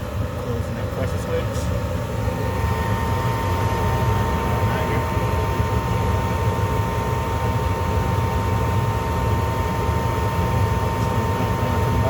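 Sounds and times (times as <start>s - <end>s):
motor humming with whine: 0.0s - 12.0s.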